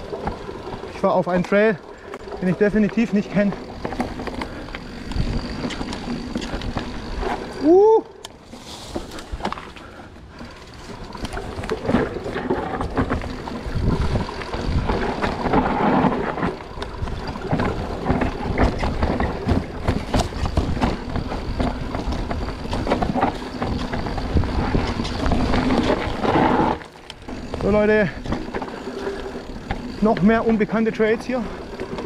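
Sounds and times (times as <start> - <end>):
bike rattling and clattering: 0.0 - 32.0
bike tyres rumbling over dirt: 0.0 - 32.0.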